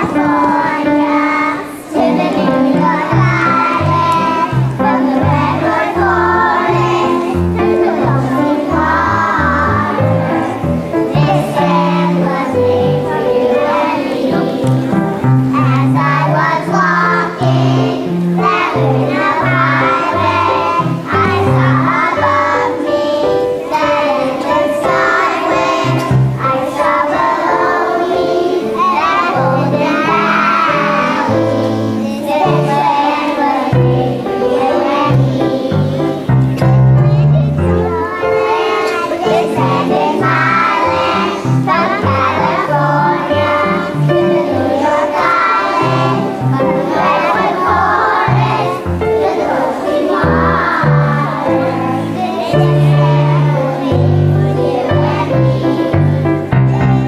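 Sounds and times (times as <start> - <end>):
children singing in unison: 0.0 - 57.0
musical accompaniment with bass: 2.0 - 57.0.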